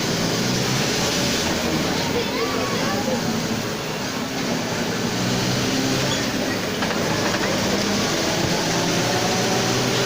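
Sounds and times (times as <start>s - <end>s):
bus diesel rumble from inside: 0.0s - 10.0s.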